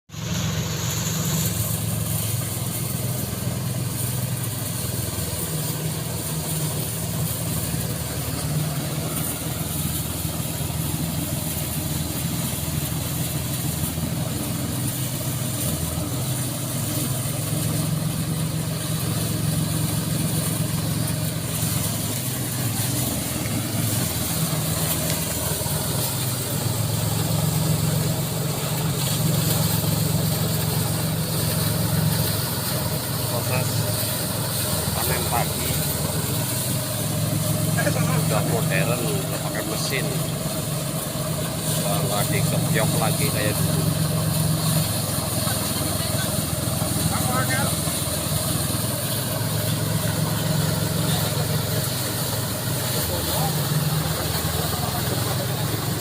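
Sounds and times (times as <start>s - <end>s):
threshing machine droning: 0.1s - 56.0s.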